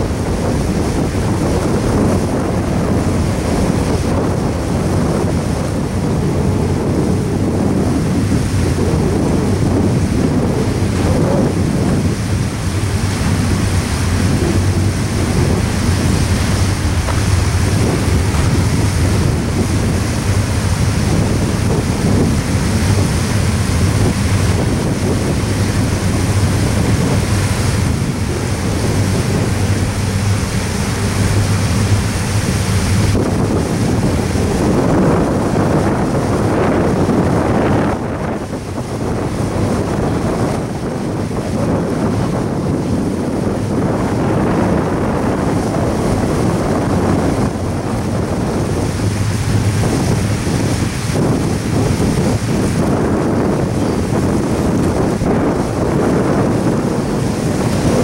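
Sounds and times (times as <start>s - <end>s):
wind buffeting microphone: 0.0s - 58.0s
freight train wheels rumbling: 8.7s - 58.0s.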